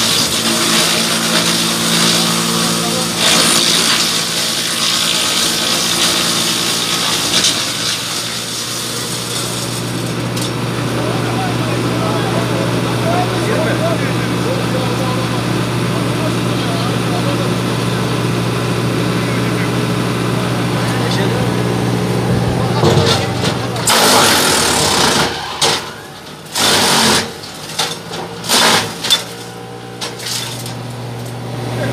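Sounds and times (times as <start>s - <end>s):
tractor running: 0.0s - 31.9s
wood chipper shredding branches: 0.0s - 31.9s.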